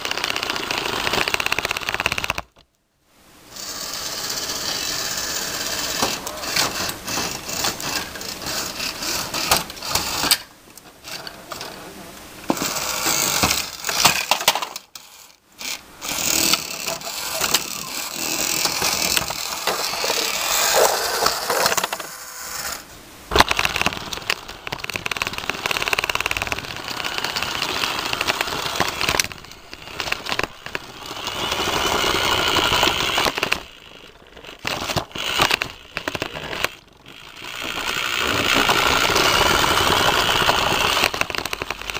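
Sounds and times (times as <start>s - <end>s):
toy motors whirring: 0.0s - 2.6s, 3.5s - 11.8s, 12.5s - 41.9s
plastic parts rattling and clicking: 5.7s - 11.8s, 12.5s - 41.9s.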